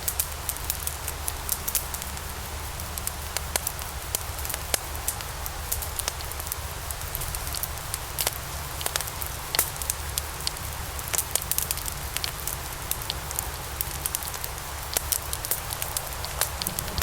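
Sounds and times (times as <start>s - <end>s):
logs crackling in fireplace: 0.0s - 17.0s.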